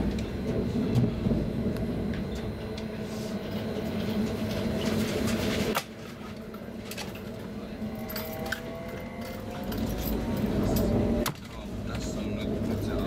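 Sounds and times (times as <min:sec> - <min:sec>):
train hum: 0:00.0 - 0:13.0
train wheels rumbling on track: 0:00.0 - 0:13.0.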